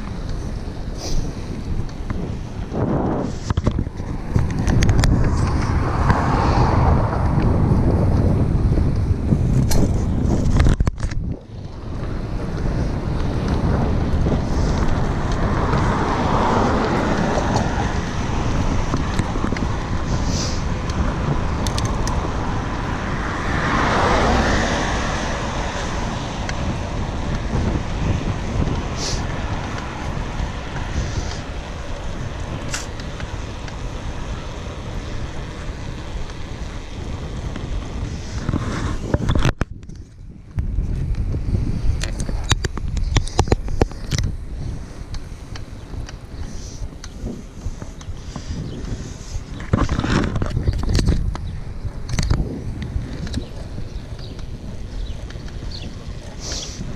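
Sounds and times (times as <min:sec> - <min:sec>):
faint ticks from bike: 0:00.0 - 0:06.4, 0:07.2 - 0:09.9, 0:10.6 - 0:23.8, 0:25.2 - 0:38.6, 0:39.7 - 0:56.9
road noise rumble: 0:00.0 - 0:56.9
wind rushing over microphone: 0:00.0 - 0:56.9.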